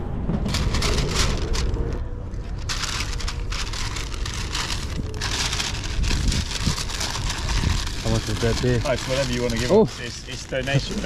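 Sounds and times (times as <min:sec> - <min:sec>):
steady low rumble: 0:00.0 - 0:11.0
bag crinkling and rustling: 0:00.4 - 0:11.0.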